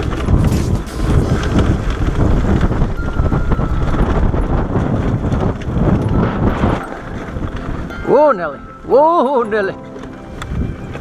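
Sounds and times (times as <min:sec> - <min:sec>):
motorcycle jolting over rocks: 0:00.0 - 0:11.0
wind buffeting microphone: 0:00.0 - 0:11.0.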